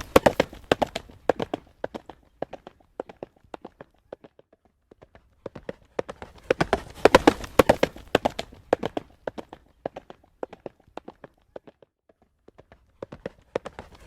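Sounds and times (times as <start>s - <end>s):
horse hooves trotting on road: 0.0s - 14.0s.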